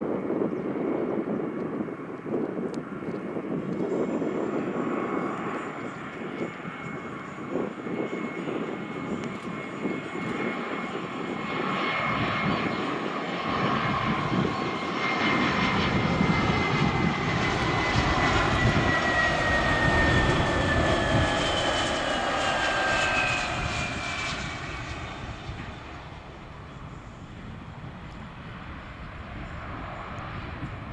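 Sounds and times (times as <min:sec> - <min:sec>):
jet engines on landing approach: 0:00.0 - 0:30.9
jet engine whine sliding down: 0:00.2 - 0:30.9.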